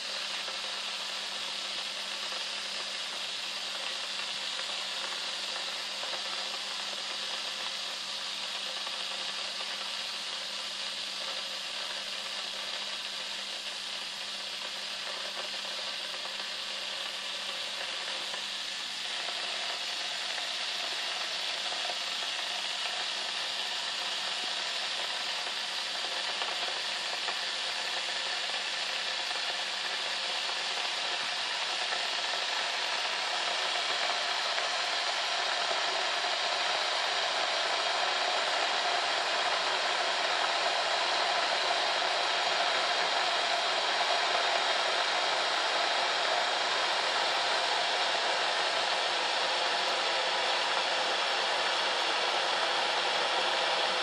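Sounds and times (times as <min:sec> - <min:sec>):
kettle hissing: 0:00.0 - 0:54.0.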